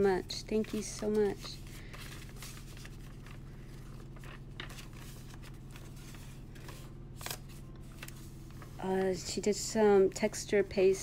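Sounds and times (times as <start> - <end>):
steady low hum: 0.0 - 11.0
paper pages rustling: 0.2 - 9.2.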